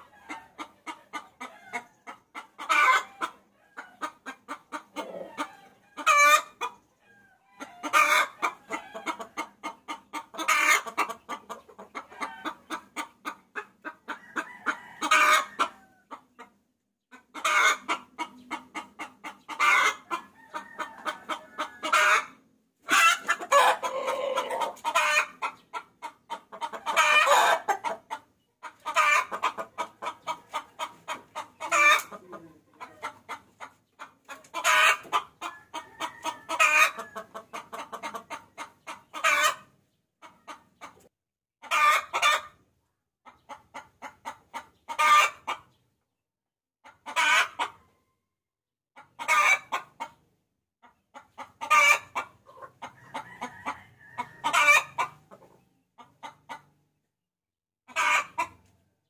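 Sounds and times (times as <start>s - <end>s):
hen cackling: 0.0s - 16.5s, 17.1s - 40.6s, 41.6s - 42.6s, 43.3s - 45.6s, 46.8s - 47.8s, 49.0s - 50.2s, 51.2s - 55.4s, 57.9s - 58.6s.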